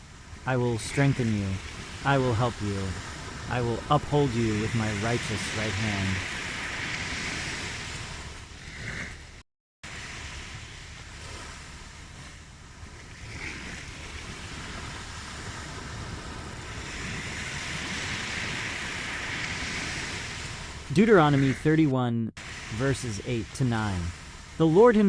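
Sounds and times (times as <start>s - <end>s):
ocean surf washing on shore: 0.0s - 25.0s.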